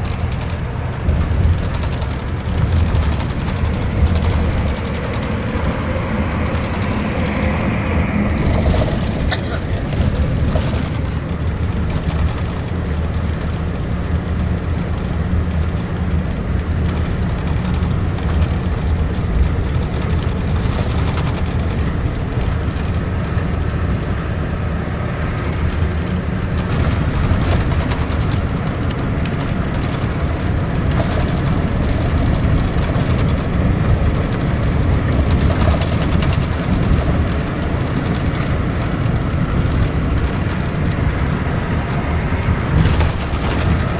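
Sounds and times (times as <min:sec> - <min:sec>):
coach diesel engine droning: 0:00.0 - 0:43.9
tyre and road noise: 0:00.0 - 0:43.9.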